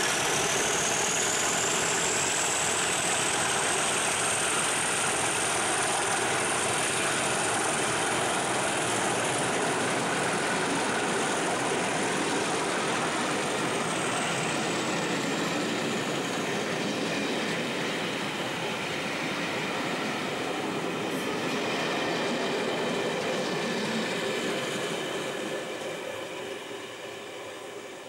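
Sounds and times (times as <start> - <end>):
diesel locomotives working hard: 0.0 - 28.0
train wheels rolling on rails: 0.0 - 28.0.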